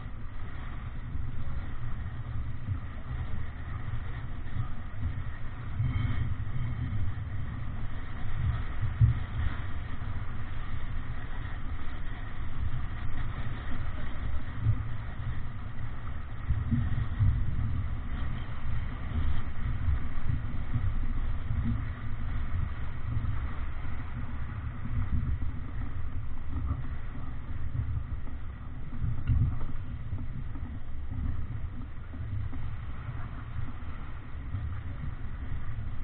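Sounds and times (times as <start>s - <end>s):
water rushing along a hull: 0.0s - 36.0s
wind rumbling on microphone: 0.0s - 36.0s.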